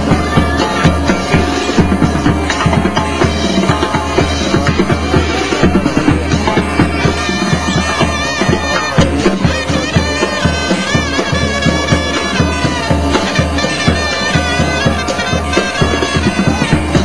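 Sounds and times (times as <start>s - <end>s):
drum and bass beat: 0.0s - 17.0s
wind instruments playing melody: 0.0s - 17.0s.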